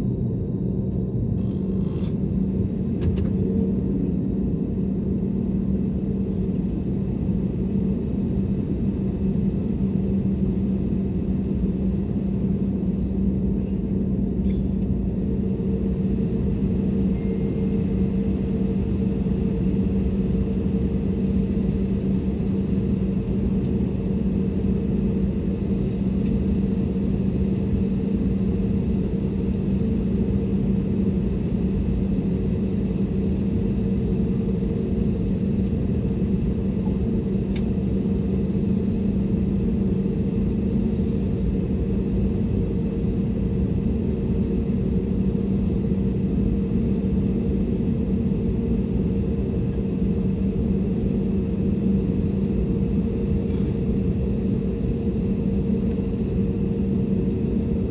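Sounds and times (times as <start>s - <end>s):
airplane cabin drone: 0.0s - 57.9s.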